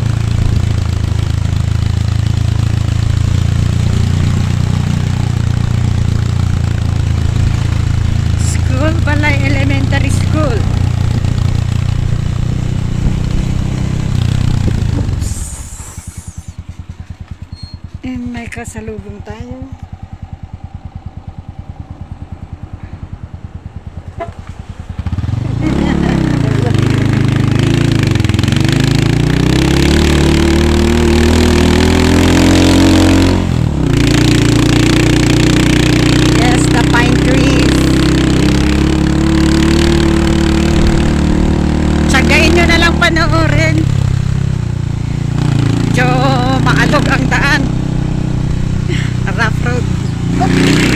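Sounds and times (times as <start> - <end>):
motorcycle engine running: 0.0 - 50.9
riding noise: 0.0 - 50.9.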